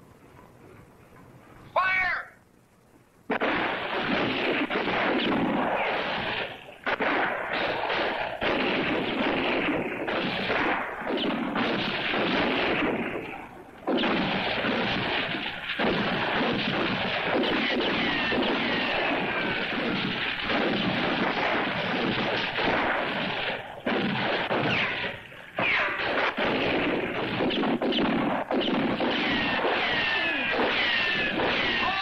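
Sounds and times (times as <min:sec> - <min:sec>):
continuous volley of gunfire: 0:03.3 - 0:32.0
whining ricochets: 0:03.3 - 0:32.0.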